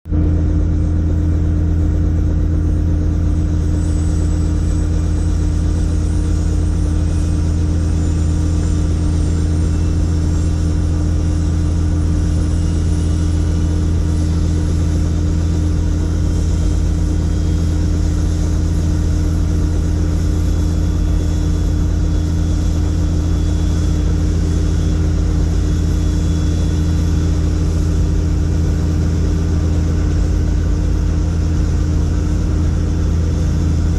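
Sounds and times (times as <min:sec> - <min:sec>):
helicopter engine and rotor drone: 0:00.0 - 0:33.9
faint high whine: 0:00.1 - 0:33.9.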